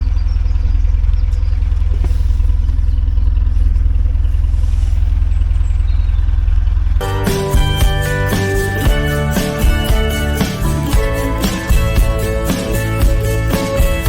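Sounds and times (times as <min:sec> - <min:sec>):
diesel engine thumping: 0:00.0 - 0:14.0.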